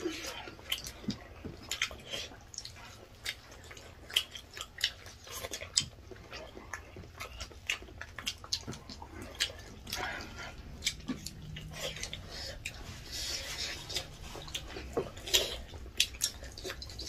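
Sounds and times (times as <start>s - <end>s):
wet chewing and lip smacks: 0.0s - 17.0s.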